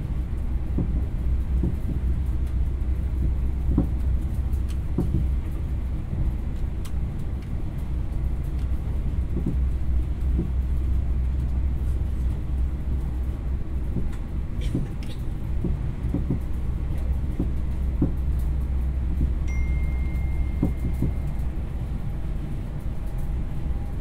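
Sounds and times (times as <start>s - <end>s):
train low rumble: 0.0s - 24.0s.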